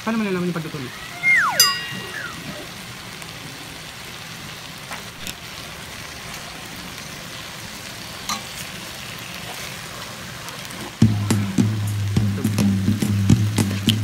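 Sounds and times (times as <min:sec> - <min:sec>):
meat sizzling in a hot pan: 0:00.0 - 0:14.0.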